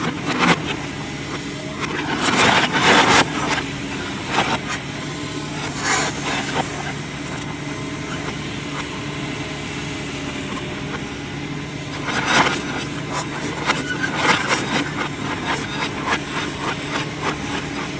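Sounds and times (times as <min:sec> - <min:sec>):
excavator engine running: 0:00.0 - 0:17.9.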